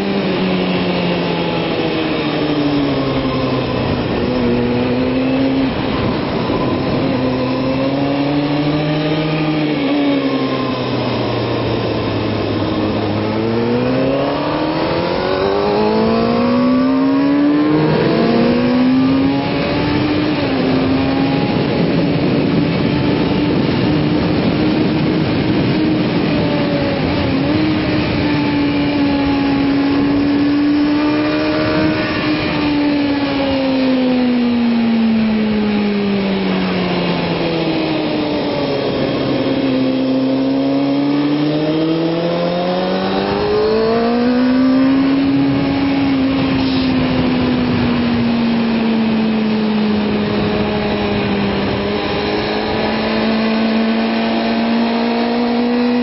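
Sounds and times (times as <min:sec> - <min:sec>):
motorcycle engine at speed: 0:00.0 - 0:56.0
wind noise: 0:00.0 - 0:56.0.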